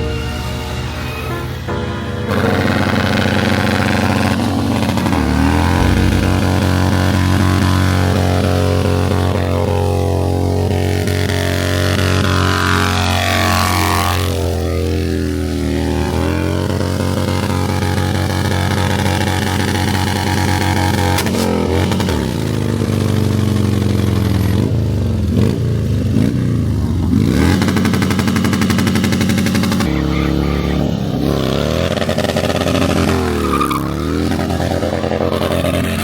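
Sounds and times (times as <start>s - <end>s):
motorcycle engine revving: 2.4s - 36.0s.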